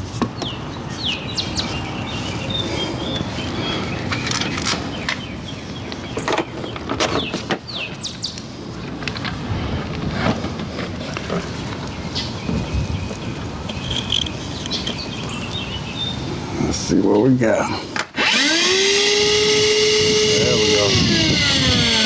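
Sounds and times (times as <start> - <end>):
birds chirping: 0.0 - 9.9, 10.6 - 18.4
steady background noise: 0.0 - 22.0.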